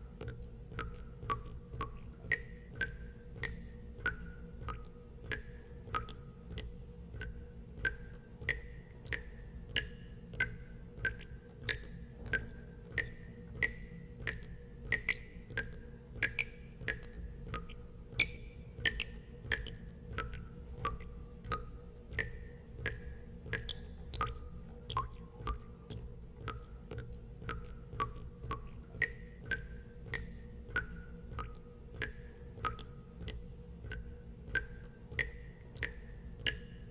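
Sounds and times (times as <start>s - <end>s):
low steady hum: 0.0s - 36.9s
water drops plinking into water: 0.0s - 36.9s.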